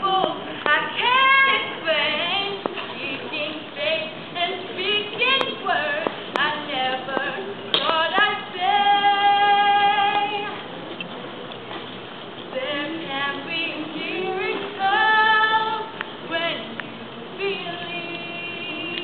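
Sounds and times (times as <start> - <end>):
woman singing unaccompanied: 0.0 - 10.6, 12.5 - 19.0.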